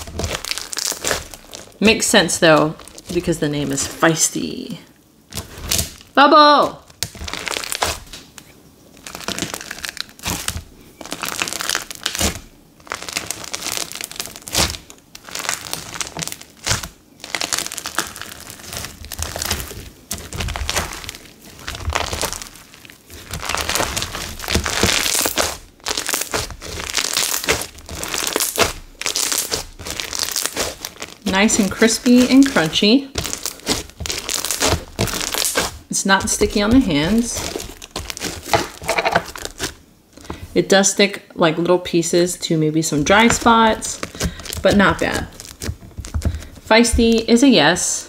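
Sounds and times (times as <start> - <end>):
crunchy slime crackling: 0.0 - 40.5, 42.3 - 47.9.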